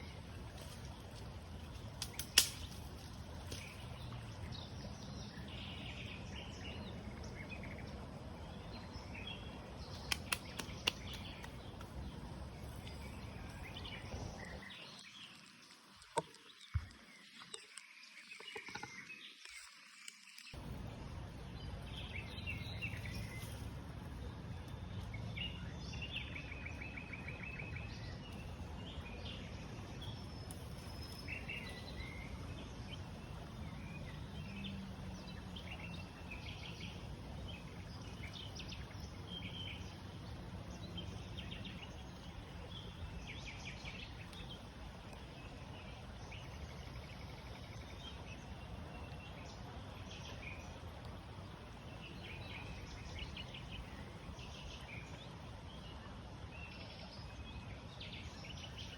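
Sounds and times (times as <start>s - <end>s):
small birds chirping: 0.0s - 20.6s, 24.6s - 56.0s.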